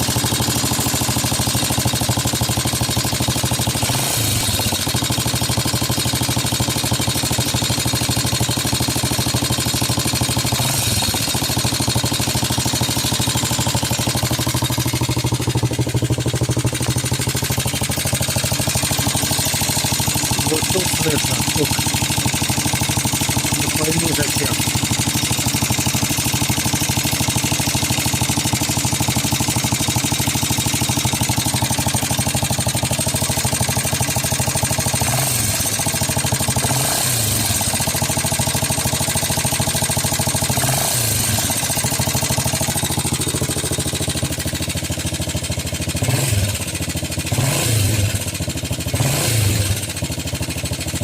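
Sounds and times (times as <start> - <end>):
motorcycle engine knocking: 0.0 - 51.0.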